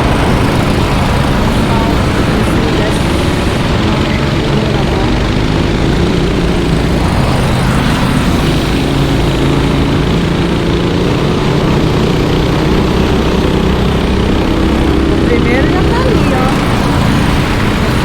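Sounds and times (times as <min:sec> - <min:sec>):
kart engines droning: 0:00.0 - 0:18.0.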